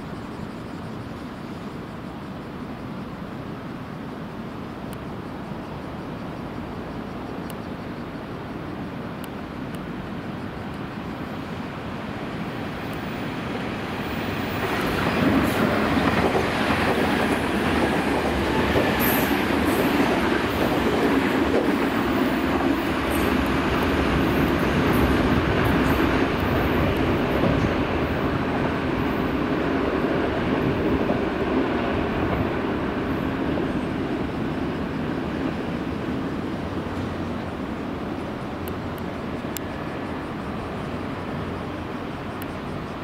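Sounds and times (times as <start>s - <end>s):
train wheels rumbling on rails: 5.0s - 43.0s.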